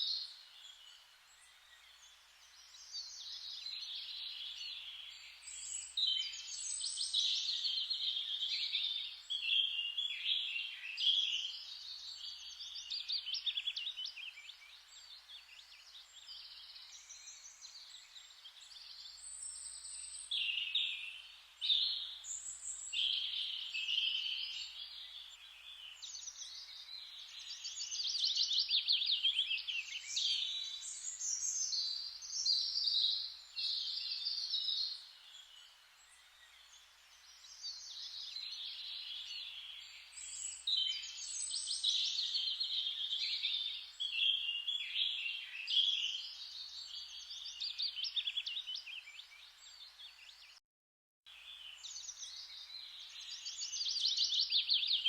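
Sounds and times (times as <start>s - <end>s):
faint steady hiss: 0.0s - 48.5s
songbirds singing: 0.0s - 50.6s, 51.3s - 55.0s.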